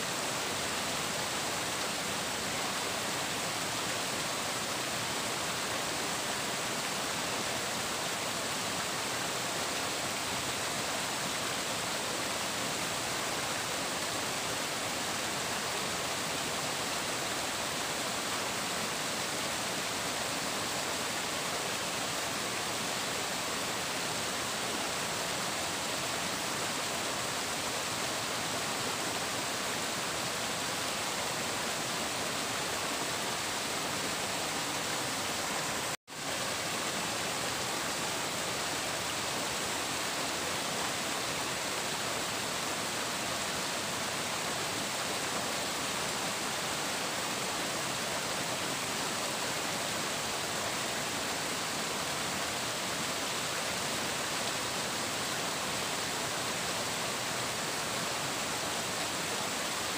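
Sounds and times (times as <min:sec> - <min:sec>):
flowing water rushing and splashing: 0:00.0 - 0:59.9.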